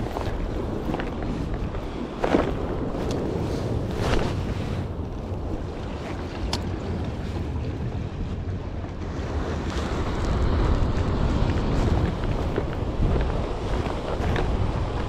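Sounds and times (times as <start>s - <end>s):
sea waves washing against rocks: 0.0s - 15.0s
wind rumbling on microphone: 0.0s - 15.0s.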